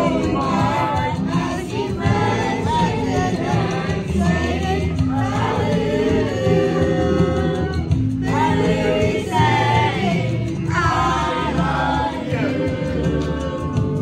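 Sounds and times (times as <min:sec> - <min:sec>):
backing track with bass notes: 0:00.0 - 0:14.0
group of voices singing: 0:00.0 - 0:14.0.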